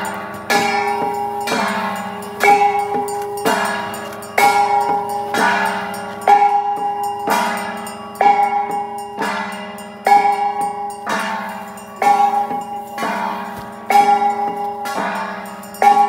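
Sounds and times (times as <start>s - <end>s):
gongs and cymbals beaten: 0.0s - 16.0s.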